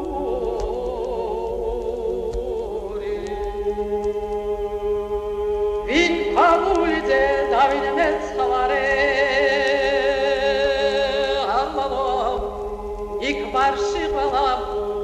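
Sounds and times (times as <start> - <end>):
solo voice singing with vibrato: 0.0 - 15.0
sustained accompaniment: 0.0 - 15.0.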